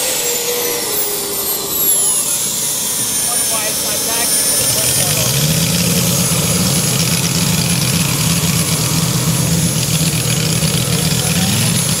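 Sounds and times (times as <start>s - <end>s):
model airplane engine idling: 0.0s - 12.0s.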